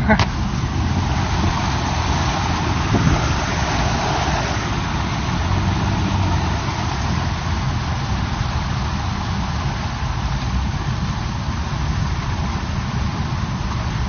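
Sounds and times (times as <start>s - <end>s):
rushing water noise: 0.0s - 14.0s
vehicle engine running: 0.0s - 14.0s.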